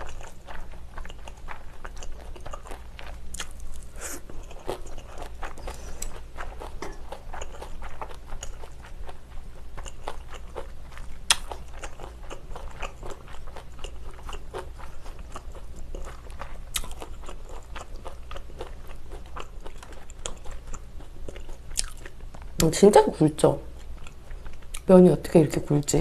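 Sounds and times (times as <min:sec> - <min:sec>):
chewing noodles: 0:00.0 - 0:22.4.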